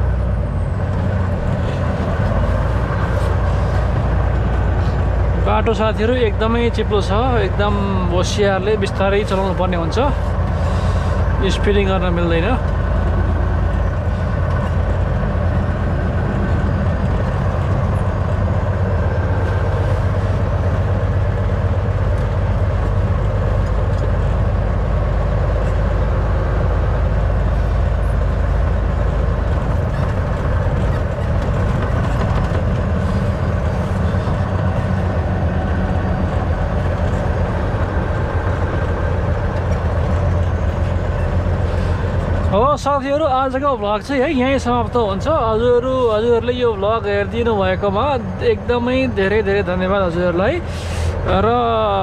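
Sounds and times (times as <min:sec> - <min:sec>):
truck diesel engine running: 0:00.0 - 0:52.0
tyre and road noise: 0:00.0 - 0:52.0.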